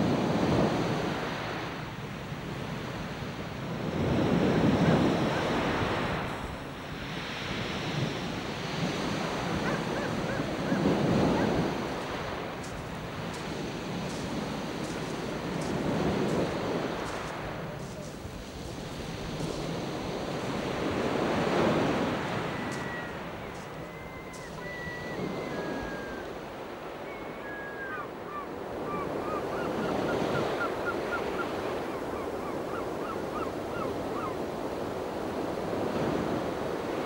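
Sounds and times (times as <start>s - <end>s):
waves washing on shingle beach: 0.0s - 27.1s, 34.0s - 37.0s.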